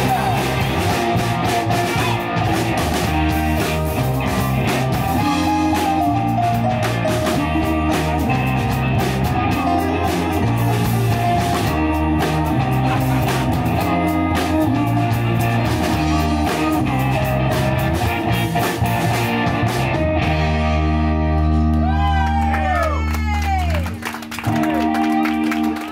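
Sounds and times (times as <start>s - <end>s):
drum kit: 0.0s - 22.8s, 23.8s - 25.9s
electric guitars: 0.0s - 25.9s.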